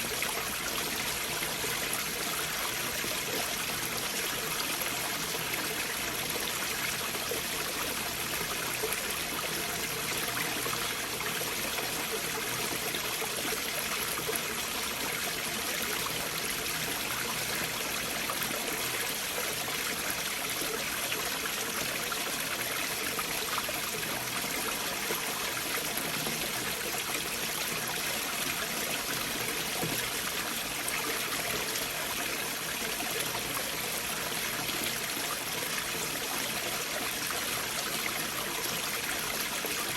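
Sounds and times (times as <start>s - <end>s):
stream flowing under boulders: 0.0s - 39.9s.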